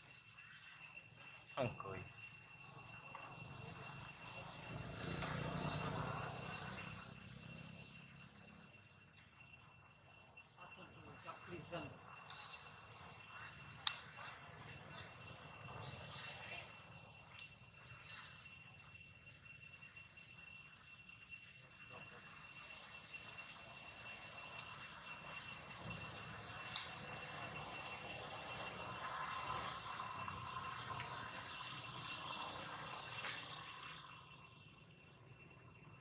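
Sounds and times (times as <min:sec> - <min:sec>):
insects buzzing: 0:00.0 - 0:36.0.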